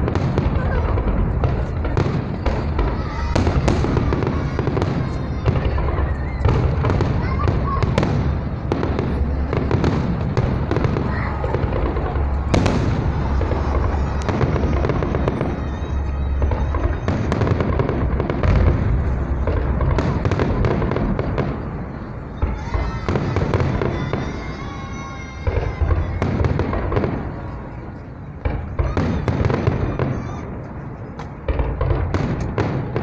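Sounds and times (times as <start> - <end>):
fireworks bangs and bursts: 0.0 - 33.0
fireworks crackling: 0.0 - 33.0.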